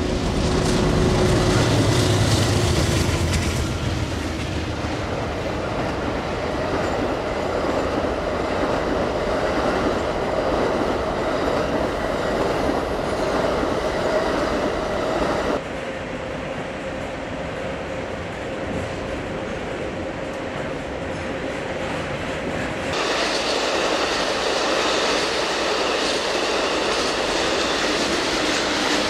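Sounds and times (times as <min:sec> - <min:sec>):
diesel locomotives rumbling past: 0:00.0 - 0:29.0
train wheels on rails: 0:00.0 - 0:29.0.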